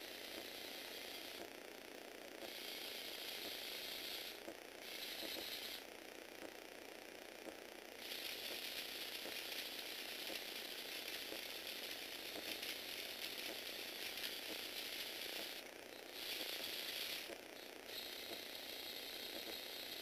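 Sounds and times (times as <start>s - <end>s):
toy electric motors whirring: 0.0s - 1.5s, 2.4s - 5.9s, 8.0s - 20.0s.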